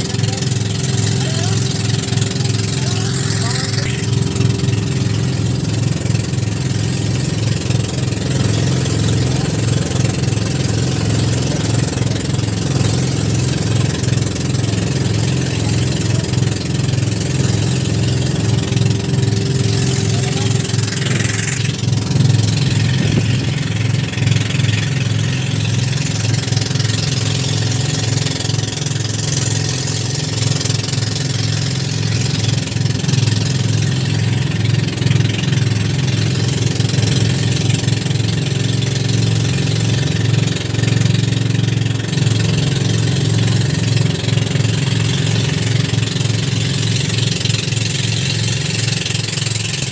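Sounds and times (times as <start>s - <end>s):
boat engine running: 0.0s - 49.9s
choppy water: 0.0s - 49.9s
wind: 0.0s - 49.9s.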